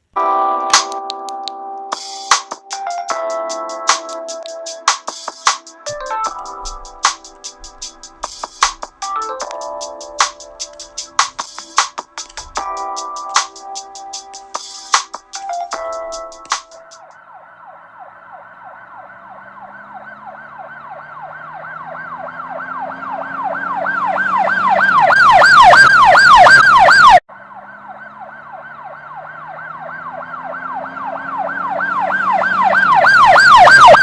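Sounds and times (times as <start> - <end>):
siren yelping: 5.6 - 34.0.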